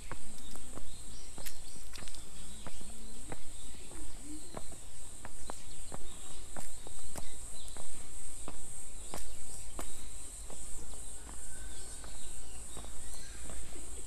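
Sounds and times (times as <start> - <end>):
faint bird-like chirps: 0.0 - 14.0.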